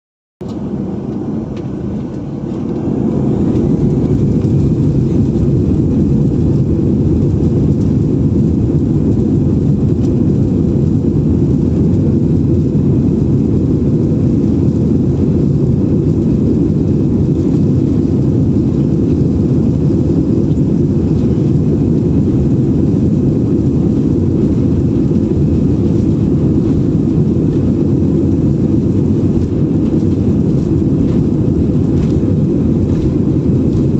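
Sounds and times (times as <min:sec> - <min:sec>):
airliner engine rumble: 0:00.4 - 0:33.9.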